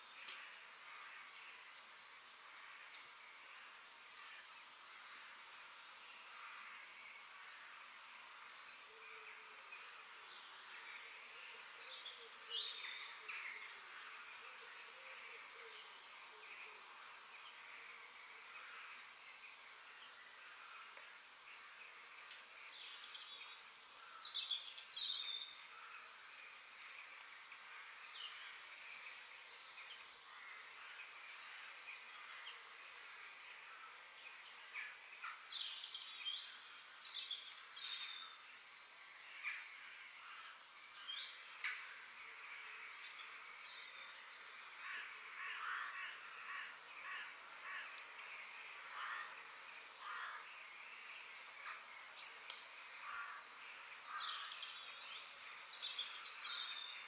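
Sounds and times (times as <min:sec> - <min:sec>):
birds chirping and trilling: 0:00.0 - 0:57.0
steady background hiss: 0:00.0 - 0:57.0.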